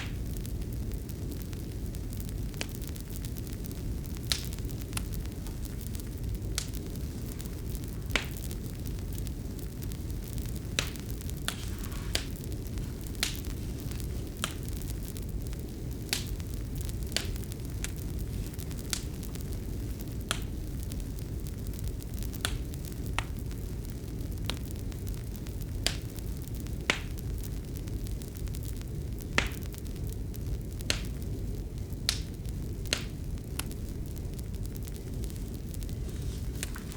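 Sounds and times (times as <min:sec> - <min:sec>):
fire crackles and pops: 0:00.0 - 0:36.9
fire low rush: 0:00.0 - 0:36.9.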